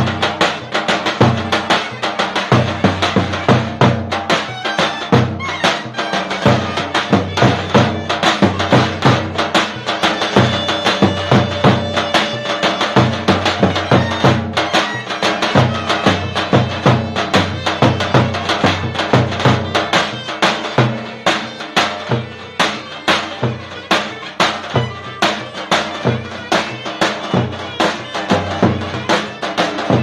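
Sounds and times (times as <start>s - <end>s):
drum fast beat: 0.0s - 30.0s
reedy wind instrument melody: 0.0s - 30.0s.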